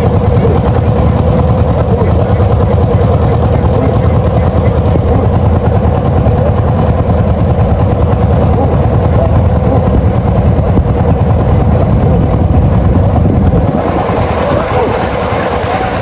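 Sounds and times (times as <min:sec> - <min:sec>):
engine droning loudly: 0:00.0 - 0:16.0.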